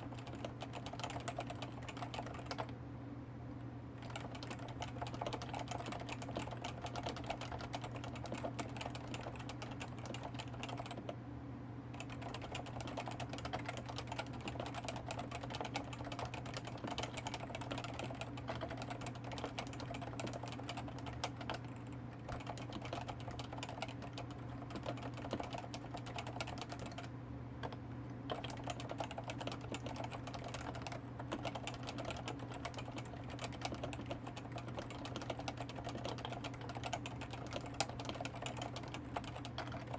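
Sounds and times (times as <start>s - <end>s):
fast keyboard typing: 0.0s - 2.7s, 4.0s - 11.2s, 11.9s - 39.9s.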